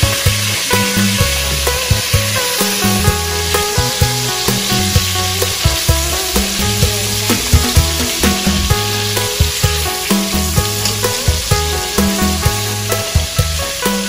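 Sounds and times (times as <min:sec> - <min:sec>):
background music with low notes: 0:00.0 - 0:14.0
fish sizzling in hot oil: 0:00.0 - 0:14.0.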